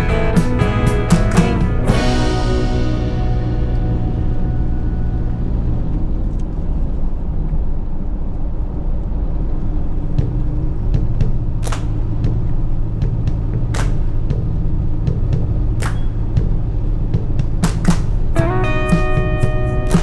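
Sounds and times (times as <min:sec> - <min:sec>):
vehicle rumbling on road: 0:01.4 - 0:18.6.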